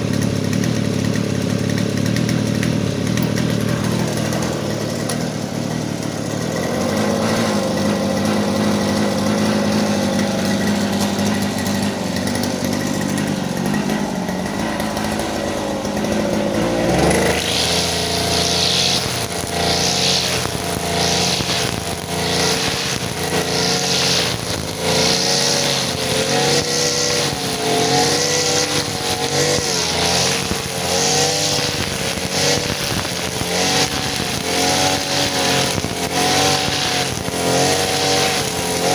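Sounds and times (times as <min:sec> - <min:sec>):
brush cutter engine running: 0:00.0 - 0:38.9
grass swishing being cut: 0:00.0 - 0:38.9.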